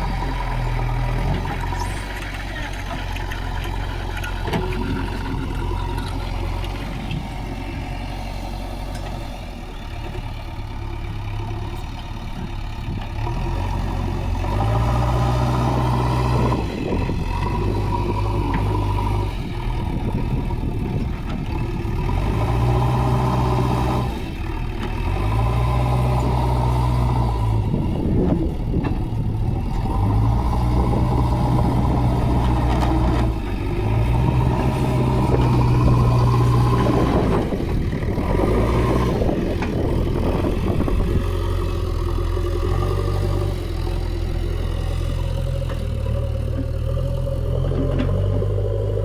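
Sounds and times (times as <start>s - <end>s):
diesel engine revving: 0.0s - 49.0s.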